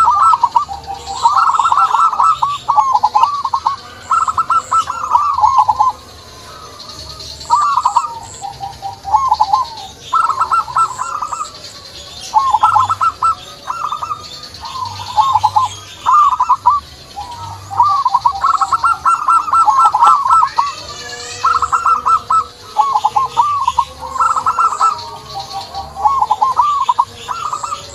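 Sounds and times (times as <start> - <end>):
doves cooing: 0.0 - 27.9
small birds chirping: 0.0 - 27.9.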